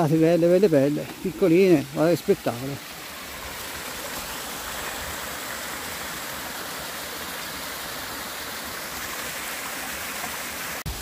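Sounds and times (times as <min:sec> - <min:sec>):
brook running water: 0:00.0 - 0:11.0.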